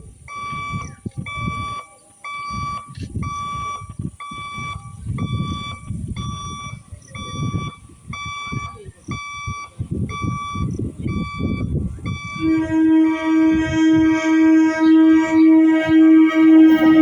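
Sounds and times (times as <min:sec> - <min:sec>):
level crossing alarm beeps: 0:00.2 - 0:17.0.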